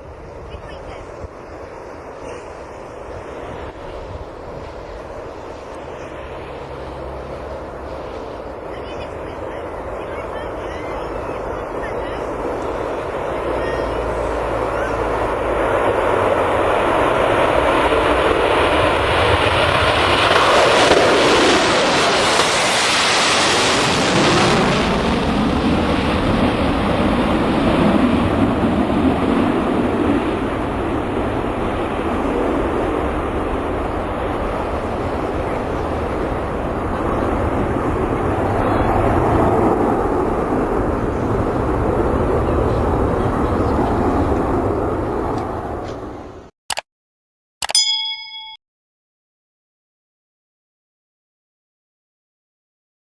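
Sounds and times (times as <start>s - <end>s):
jet engine roar: 0.0s - 46.5s.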